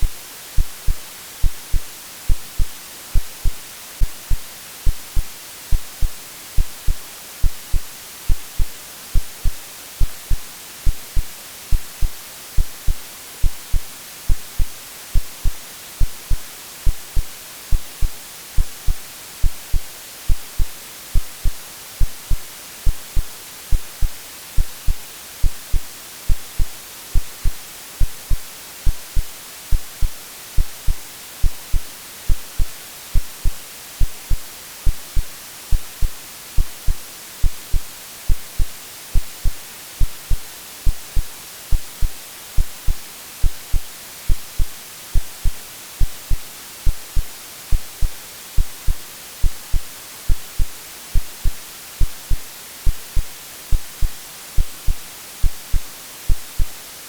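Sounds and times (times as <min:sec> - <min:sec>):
heartbeat thumping: 0:00.0 - 0:56.8
white noise hiss: 0:00.0 - 0:57.0.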